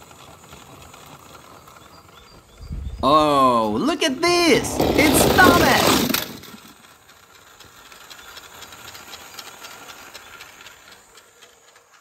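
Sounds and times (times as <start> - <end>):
small clicks and rattles: 0.0 - 2.6, 4.8 - 12.0.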